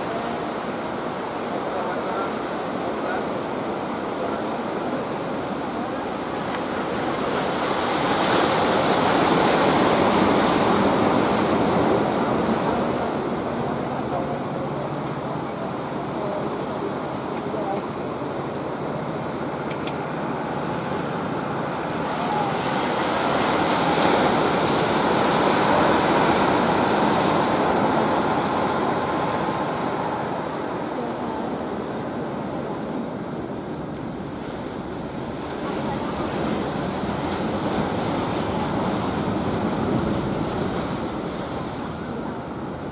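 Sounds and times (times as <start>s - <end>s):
surf breaking: 0.0s - 42.7s.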